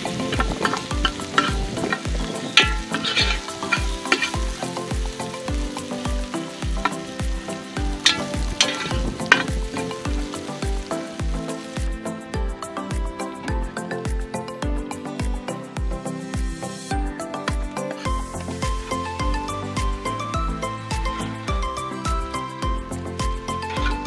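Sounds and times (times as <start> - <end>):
background music with steady beat: 0.0 - 24.0
spices sizzling in hot oil: 0.0 - 24.0.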